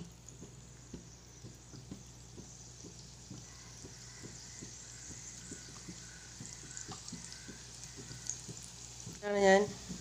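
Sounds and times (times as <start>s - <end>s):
dough frying in oil: 0.0s - 10.0s.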